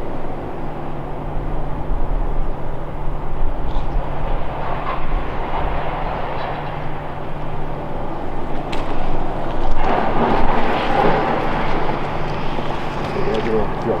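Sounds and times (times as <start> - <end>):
low hum: 0.0 - 14.0
mechanical rumble: 0.0 - 14.0.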